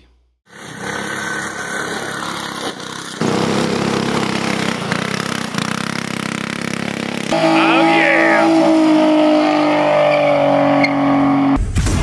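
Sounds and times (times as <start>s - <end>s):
go-kart engines running: 0.5s - 10.8s.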